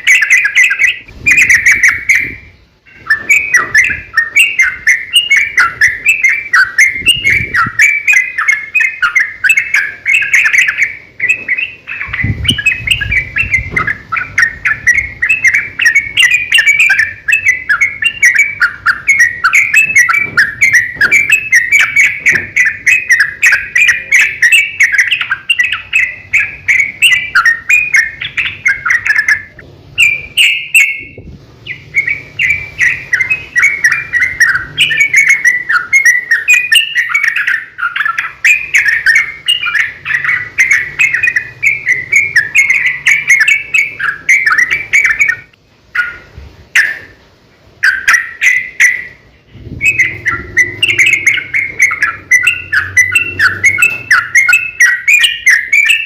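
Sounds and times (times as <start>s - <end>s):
birds chattering song: 0.0s - 56.0s.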